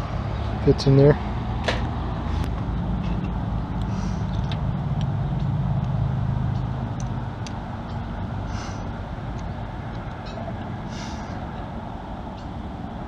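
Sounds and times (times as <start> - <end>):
low motor rumble: 0.0 - 13.0.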